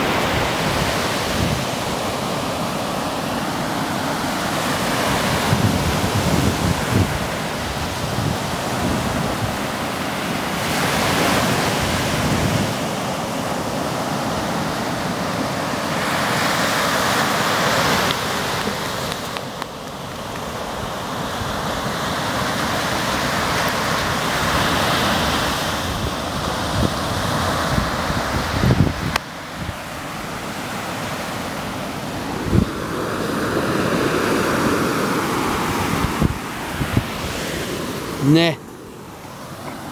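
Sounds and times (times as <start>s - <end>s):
wind rumbling on microphone: 0.0s - 3.6s, 4.2s - 9.9s, 10.6s - 13.1s, 17.6s - 39.9s
surf breaking on beach: 0.0s - 39.9s.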